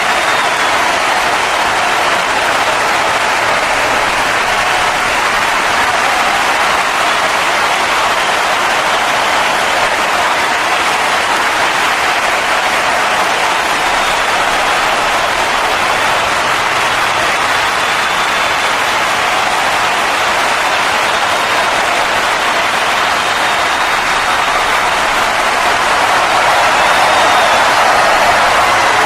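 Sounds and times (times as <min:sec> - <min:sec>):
crowd cheering and applauding: 0:00.0 - 0:29.0.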